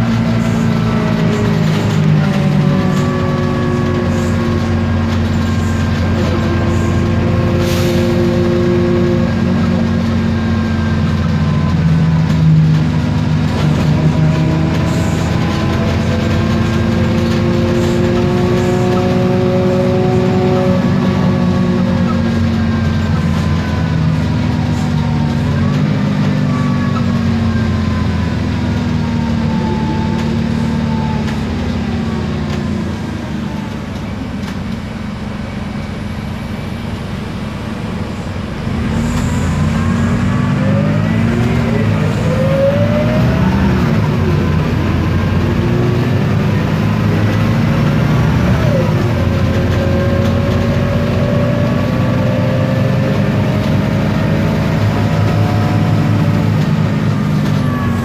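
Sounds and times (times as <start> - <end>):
bus diesel engine running: 0.0 - 58.0
gearbox whining: 8.4 - 58.0.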